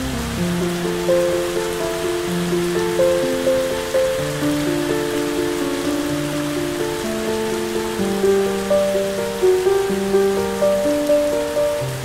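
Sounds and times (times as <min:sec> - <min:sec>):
slow calm instrumental music: 0:00.0 - 0:12.0
steady rain: 0:00.0 - 0:12.0.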